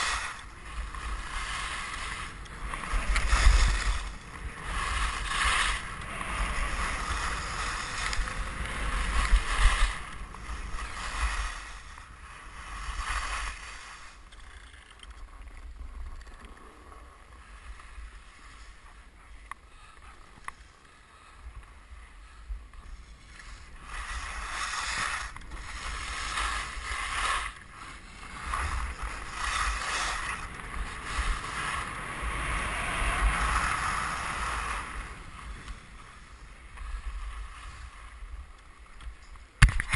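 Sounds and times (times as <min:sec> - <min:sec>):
skis scraping over snow: 0:00.0 - 0:39.9
wind rumble on microphone: 0:00.0 - 0:39.9.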